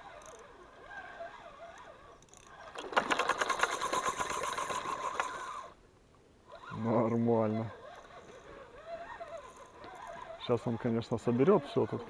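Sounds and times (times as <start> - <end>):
fishing reel ratcheting with whine: 0.0 - 5.7, 6.5 - 12.0.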